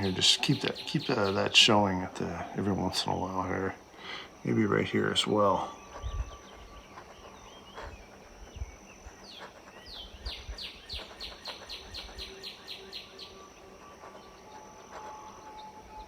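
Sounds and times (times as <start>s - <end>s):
faint high-pitched hum: 0.0s - 16.0s
songbird trilling: 0.0s - 16.0s.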